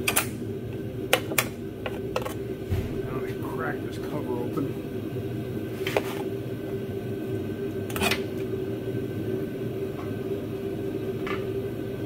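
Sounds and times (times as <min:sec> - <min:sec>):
steady shop hum: 0:00.0 - 0:12.0.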